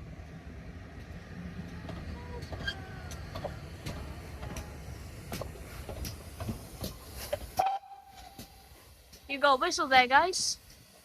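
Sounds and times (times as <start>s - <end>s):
steam locomotive rumbling: 0.0s - 11.0s
locomotive clanks and clicks: 0.9s - 11.0s.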